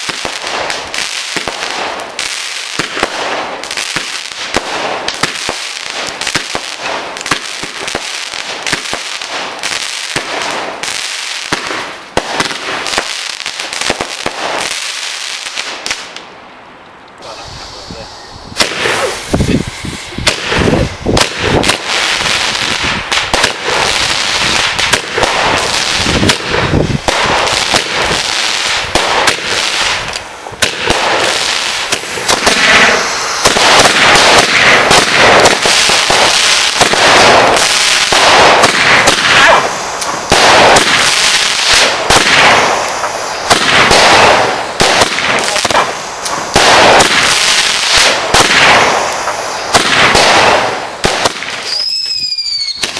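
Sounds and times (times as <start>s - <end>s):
fireworks bangs and crackles: 0.0s - 16.6s, 17.2s - 52.9s.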